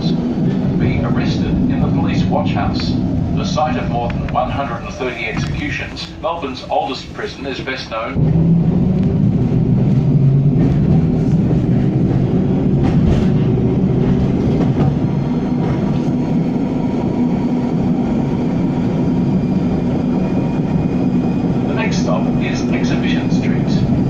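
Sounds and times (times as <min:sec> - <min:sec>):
tram rumbling along track: 0:00.0 - 0:24.0.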